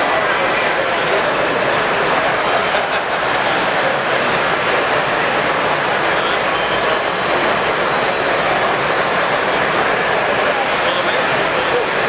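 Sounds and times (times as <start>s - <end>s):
crowd hubbub: 0.0s - 12.0s.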